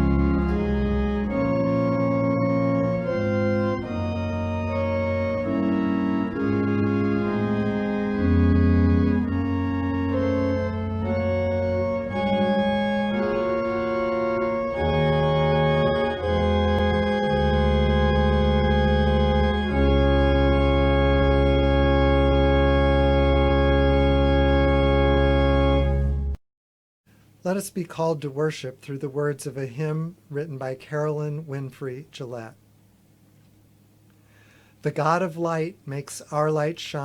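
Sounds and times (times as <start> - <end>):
organ music: 0.0 - 26.4, 33.8 - 37.0.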